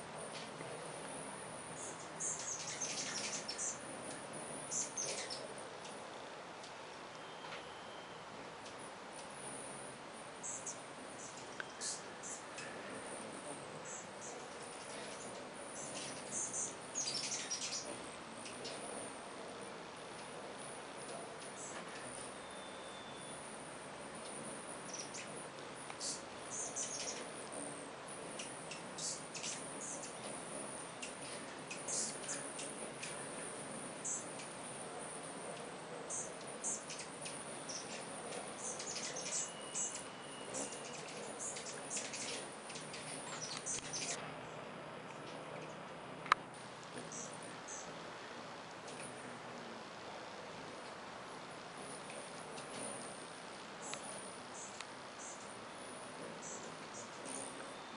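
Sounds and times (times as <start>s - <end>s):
hummingbirds chattering: 0.0s - 57.9s.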